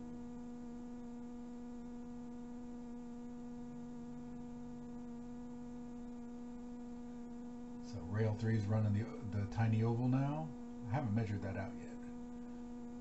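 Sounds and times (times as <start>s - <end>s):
toy trains electrical hum: 0.0s - 13.0s.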